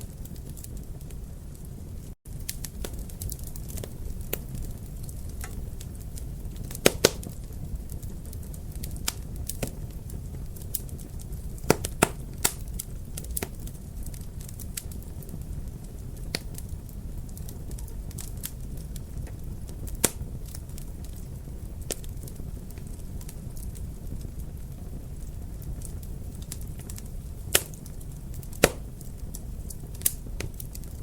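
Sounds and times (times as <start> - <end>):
fire popping: 0.0 - 31.0
wood fire crackling: 0.0 - 31.0.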